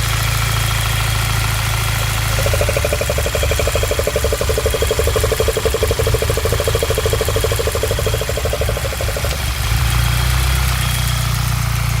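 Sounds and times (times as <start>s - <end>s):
engine humming: 0.0s - 12.0s
engine knocking: 0.0s - 12.0s.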